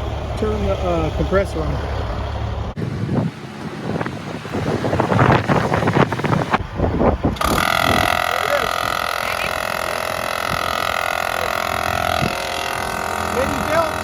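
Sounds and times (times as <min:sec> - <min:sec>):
air compressor motor whine: 0:02.8 - 0:14.0.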